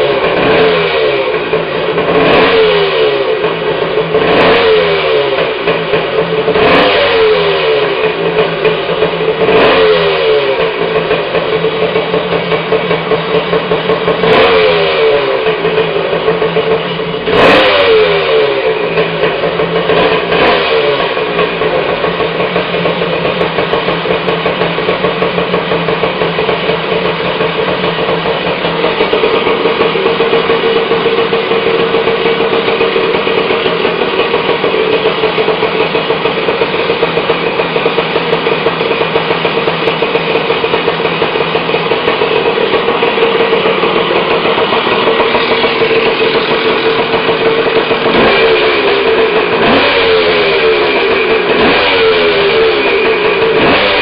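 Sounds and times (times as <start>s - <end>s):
dirt bike engine idling and revving: 0.0s - 54.0s.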